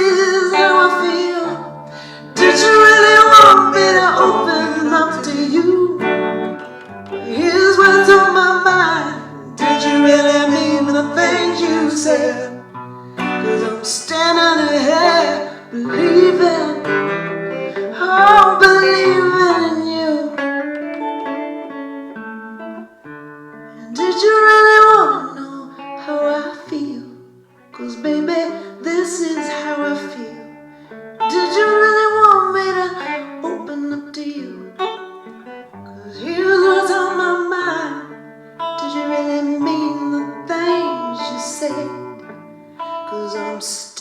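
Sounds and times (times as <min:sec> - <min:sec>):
woman singing: 0:00.0 - 0:20.4, 0:23.8 - 0:30.5, 0:31.2 - 0:35.0, 0:35.9 - 0:42.4, 0:43.0 - 0:44.0
acoustic guitar: 0:00.0 - 0:44.0.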